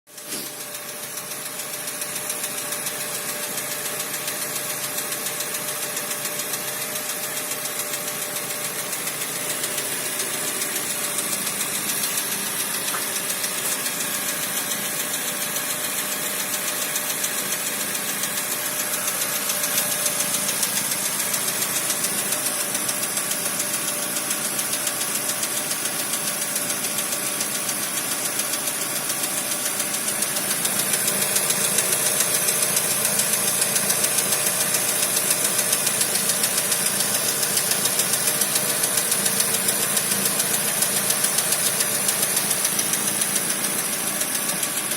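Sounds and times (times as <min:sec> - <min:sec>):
car engine knocking: 0:00.1 - 0:44.9.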